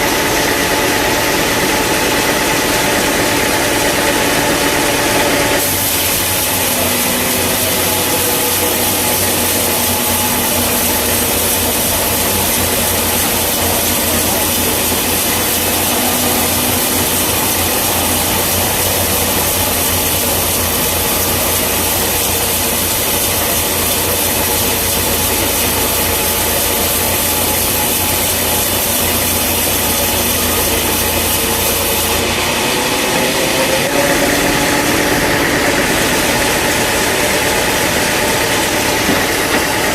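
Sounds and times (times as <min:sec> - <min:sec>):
engine running: 0:00.0 - 0:39.9
saw cutting through log: 0:00.0 - 0:39.9.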